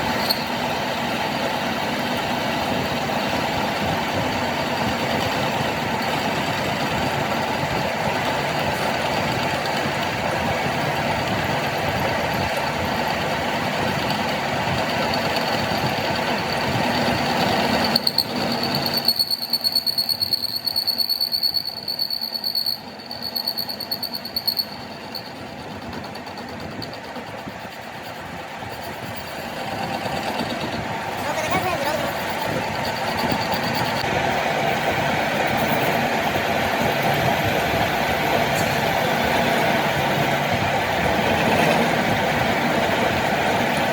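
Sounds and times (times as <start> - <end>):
high whine with uneven clattering: 0.0 - 43.9
workshop machinery running: 0.0 - 43.9.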